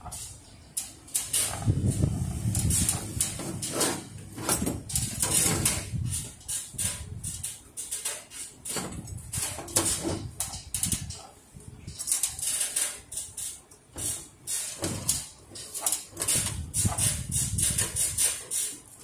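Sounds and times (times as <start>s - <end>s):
clicks knocks and rubbing of handling: 2.5s - 19.0s.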